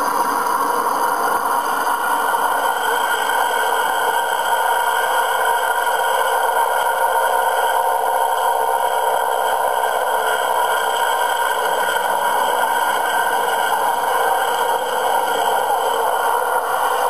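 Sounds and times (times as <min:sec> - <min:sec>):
radial aircraft engines droning: 0:00.0 - 0:17.0.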